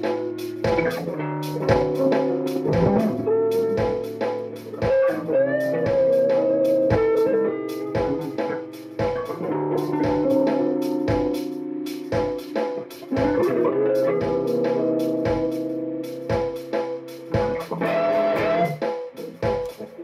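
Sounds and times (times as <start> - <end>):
electric guitar lead notes: 0.0 - 20.0
steady drum beat: 0.0 - 20.0.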